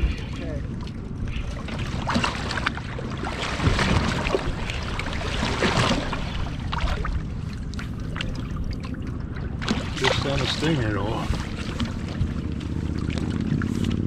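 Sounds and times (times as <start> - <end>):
waves slapping boat hull: 0.0 - 14.0.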